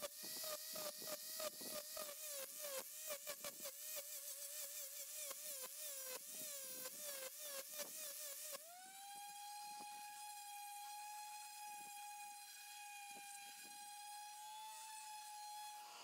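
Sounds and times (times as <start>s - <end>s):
carving tool motor whining: 0.0s - 16.0s.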